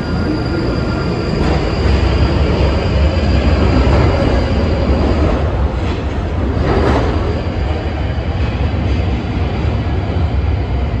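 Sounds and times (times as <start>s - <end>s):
rail noise: 0.0s - 11.0s
train rumbling: 0.0s - 11.0s.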